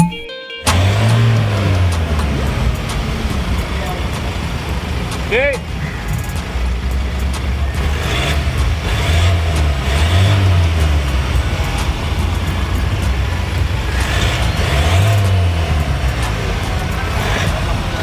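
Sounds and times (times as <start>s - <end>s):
truck exhaust rumbling: 0.7s - 18.0s.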